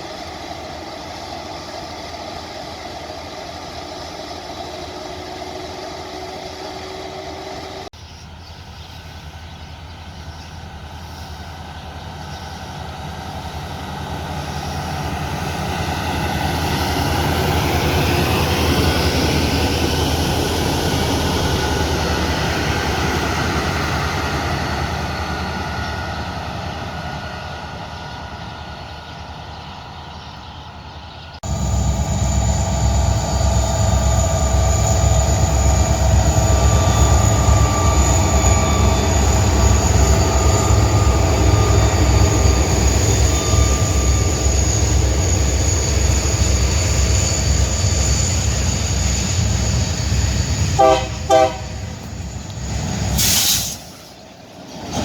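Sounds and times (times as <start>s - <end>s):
high train whine: 0.0s - 55.0s
train rumble: 0.0s - 55.0s.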